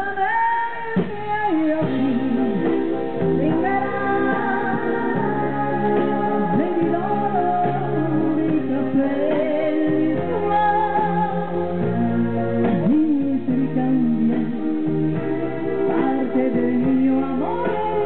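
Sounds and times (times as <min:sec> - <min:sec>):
person singing: 0:00.0 - 0:18.0
steady bass line: 0:01.1 - 0:18.0.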